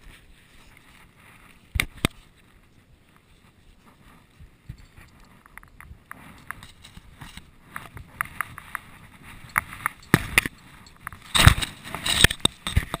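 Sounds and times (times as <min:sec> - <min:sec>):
handling rustling and clicks: 0:00.0 - 0:13.0.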